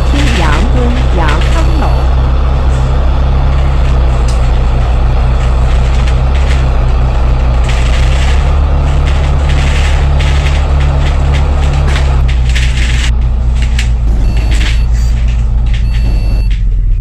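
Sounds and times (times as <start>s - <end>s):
diesel bus engine drone: 0.0s - 17.0s
road noise: 0.0s - 17.0s.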